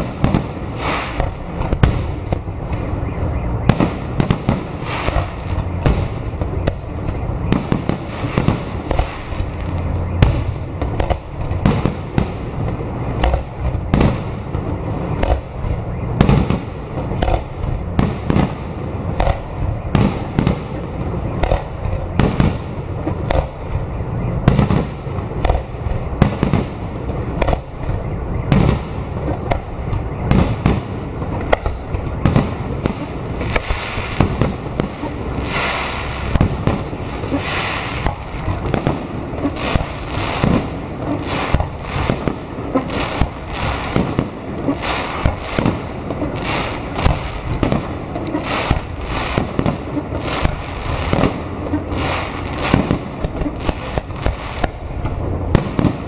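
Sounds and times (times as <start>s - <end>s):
continuous low rumble: 0.0s - 56.0s.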